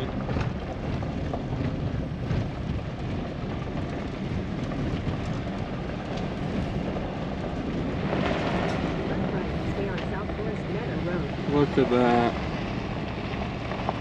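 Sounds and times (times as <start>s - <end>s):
road noise: 0.0s - 14.0s
truck engine: 0.0s - 14.0s.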